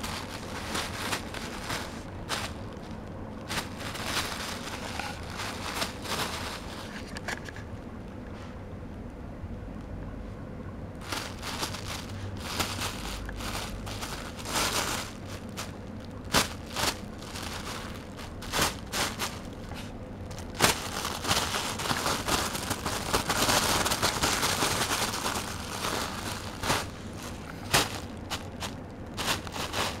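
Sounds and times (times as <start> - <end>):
plastic bag crinkling: 0.0 - 7.4, 11.0 - 30.0.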